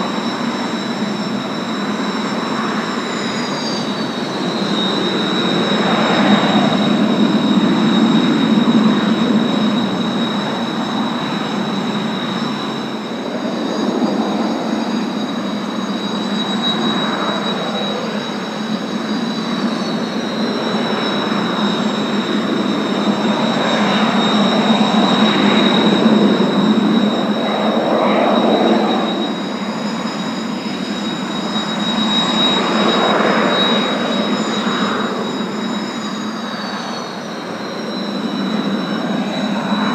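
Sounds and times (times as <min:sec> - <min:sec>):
jet engines whining: 0:00.0 - 0:39.9
jet roar: 0:00.0 - 0:39.9.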